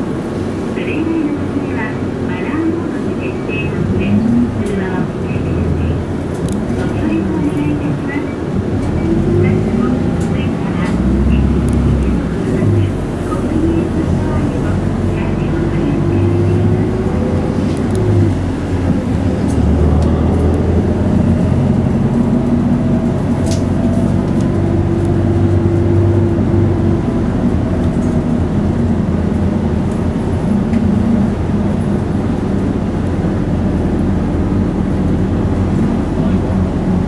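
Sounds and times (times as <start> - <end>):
bus engine running: 0.0 - 37.0
road noise: 0.0 - 37.0.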